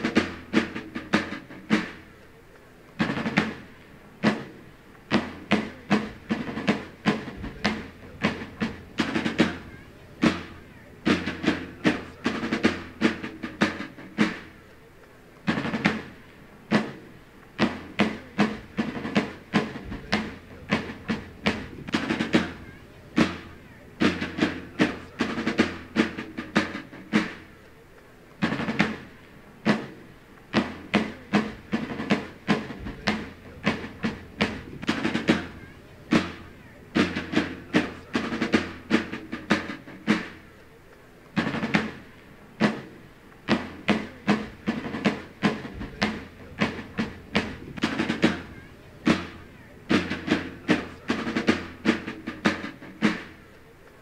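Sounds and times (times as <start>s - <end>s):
marching drum beating: 0.0s - 54.0s.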